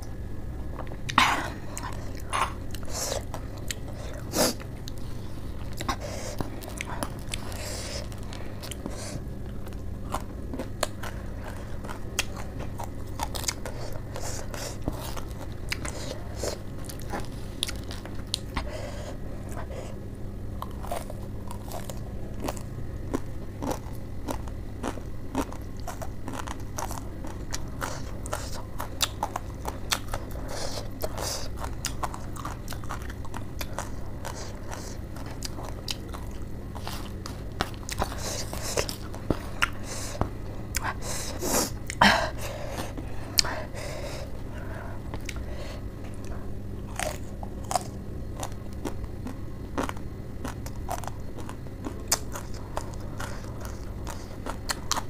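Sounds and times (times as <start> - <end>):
steady low hum: 0.0 - 55.0
chewing crunchy noodles: 0.8 - 55.0.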